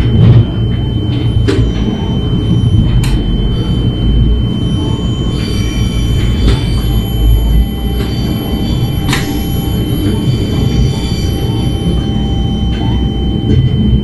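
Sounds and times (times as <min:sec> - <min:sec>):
high-pitched wheel squeal: 0:00.9 - 0:13.5.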